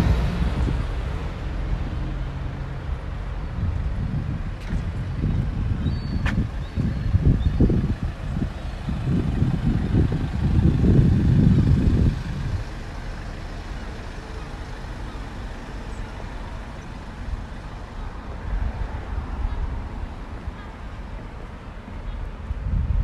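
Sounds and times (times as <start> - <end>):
truck driving past: 0.0 - 5.8, 6.4 - 21.8
street traffic: 0.0 - 23.0.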